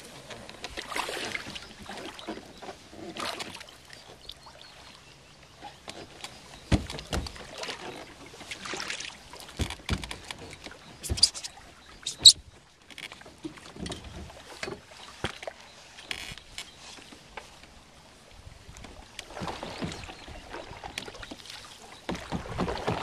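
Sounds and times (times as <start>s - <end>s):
water lapping against canoe hull: 0.1s - 23.0s.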